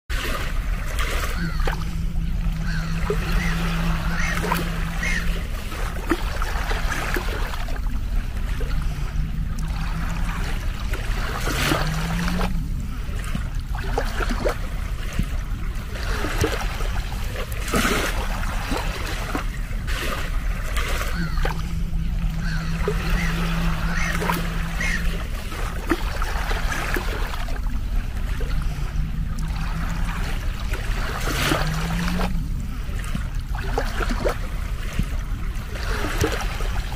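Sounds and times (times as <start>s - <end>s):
small waves lapping on beach: 0.1s - 36.9s
low drone: 0.3s - 33.6s.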